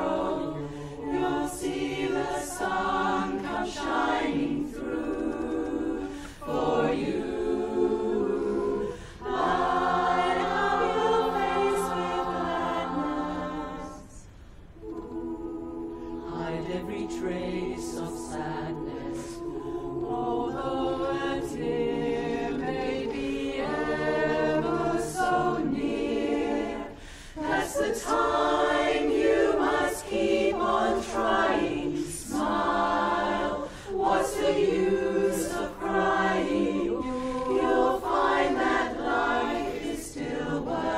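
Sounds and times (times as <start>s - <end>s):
women's chorus singing a cappella: 0.0s - 40.9s.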